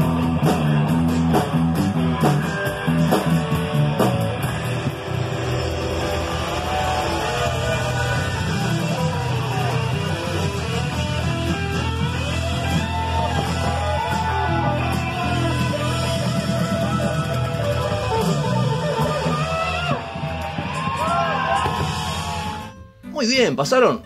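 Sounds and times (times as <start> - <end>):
electric guitars: 0.0 - 23.1
bending lead guitar line: 0.0 - 23.4
drum kit: 0.0 - 23.9.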